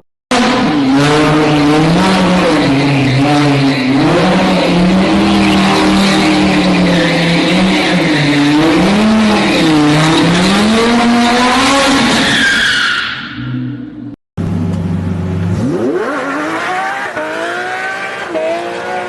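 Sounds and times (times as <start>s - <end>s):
car engine revving: 0.3s - 12.2s, 13.5s - 19.0s.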